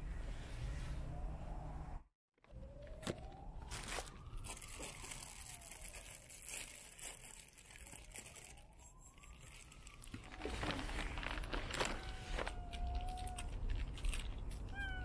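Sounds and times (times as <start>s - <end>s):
distant siren wailing: 0.5s - 13.7s.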